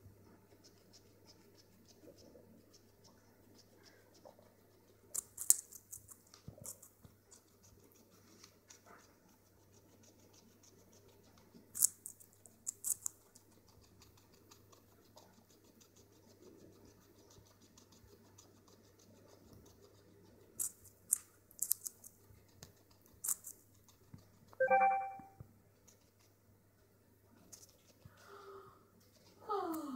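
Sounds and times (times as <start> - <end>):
rabbit crunching carrot: 0.5 - 24.6, 25.7 - 28.3.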